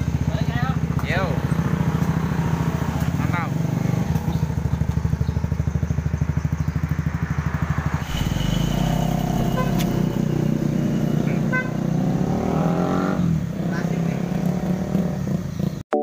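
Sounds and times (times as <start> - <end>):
motorcycle engine idling and revving: 0.0 - 15.9
heavy truck rumble: 1.2 - 15.8.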